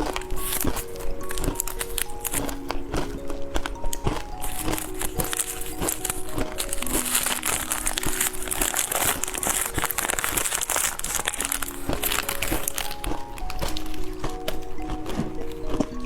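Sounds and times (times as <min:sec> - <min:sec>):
light background music: 0:00.0 - 0:16.0
plastic wrapper crinkling: 0:00.0 - 0:16.0.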